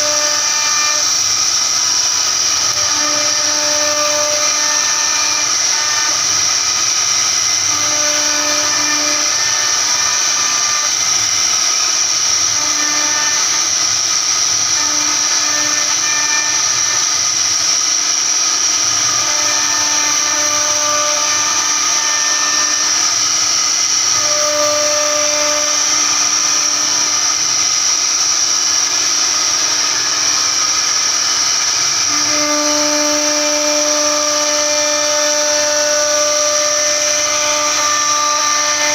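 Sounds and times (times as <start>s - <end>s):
cnc router spindle whine: 0.0s - 38.9s
router bit carving wood: 0.0s - 38.9s.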